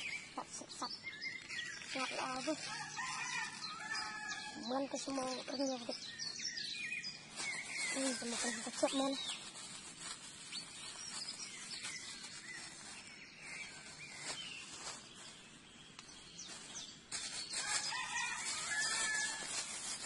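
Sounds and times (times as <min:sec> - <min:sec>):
plastic bag rustling: 0:00.0 - 0:05.9, 0:07.2 - 0:15.6, 0:16.4 - 0:20.0
birds chirping: 0:00.0 - 0:19.5.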